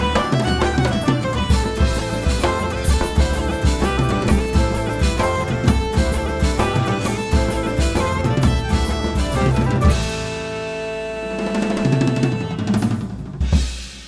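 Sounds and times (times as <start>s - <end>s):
band music with drum beat: 0.0s - 14.0s.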